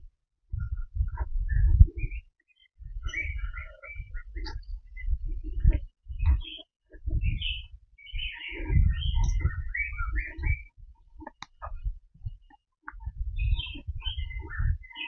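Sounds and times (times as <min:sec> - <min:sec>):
thuds and rumble on microphone: 0:00.0 - 0:15.0
birds chirping: 0:00.5 - 0:15.0.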